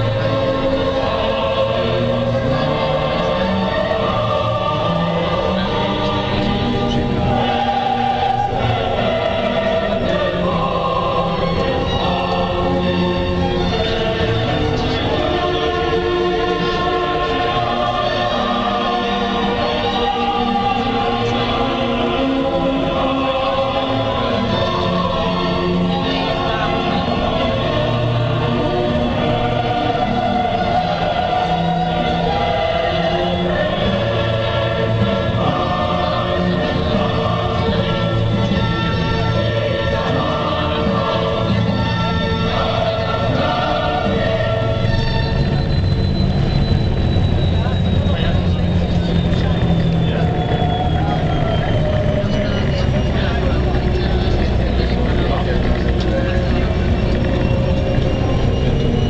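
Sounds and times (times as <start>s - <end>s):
choir singing held chords: 0.0s - 59.0s.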